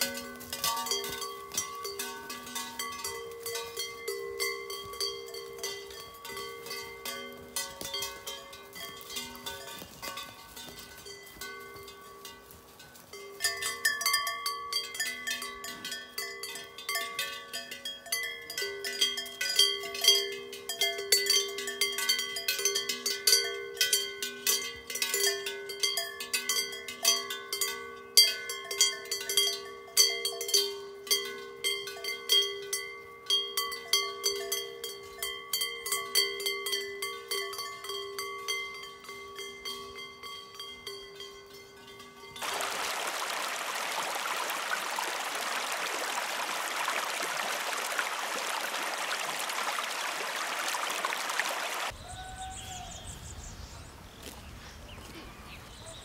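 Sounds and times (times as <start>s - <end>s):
cowbells clanking: 0.0s - 51.2s.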